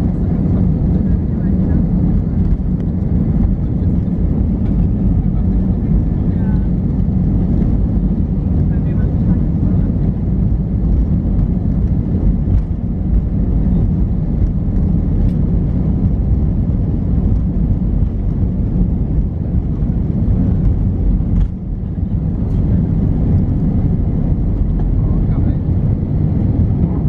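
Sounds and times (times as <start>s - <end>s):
jet engines at takeoff power: 0.0s - 27.0s
wheels rumbling on runway: 0.0s - 27.0s.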